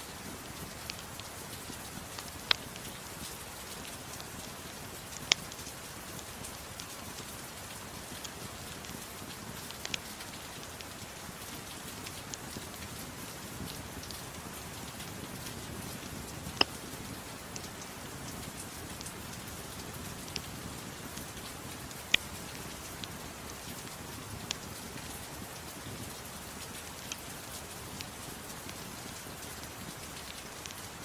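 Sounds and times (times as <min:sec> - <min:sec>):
fireplace crackling: 0:00.0 - 0:31.0
soft steady rain: 0:00.0 - 0:31.0.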